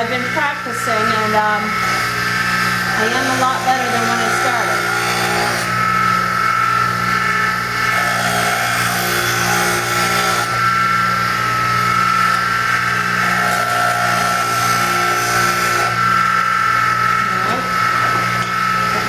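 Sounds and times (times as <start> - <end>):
electric grinder motor whining: 0.0 - 19.0
steel grinding on wheel: 0.0 - 19.0.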